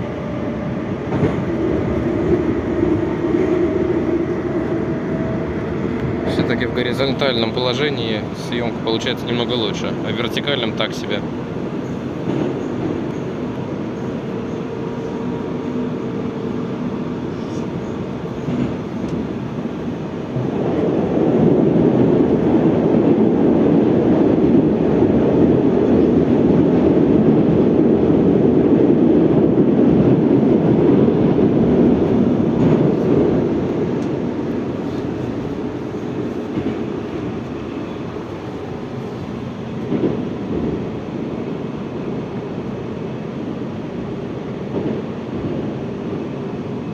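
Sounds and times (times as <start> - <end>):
metro train wheels rumbling: 0.0 - 46.9.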